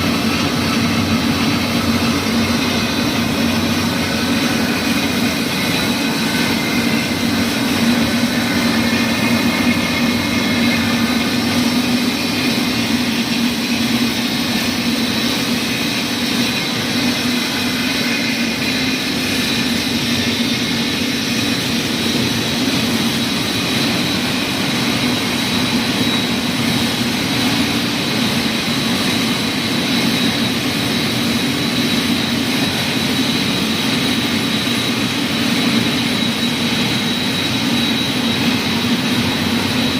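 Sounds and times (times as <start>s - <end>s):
machinery humming with high whine: 0.0s - 39.9s.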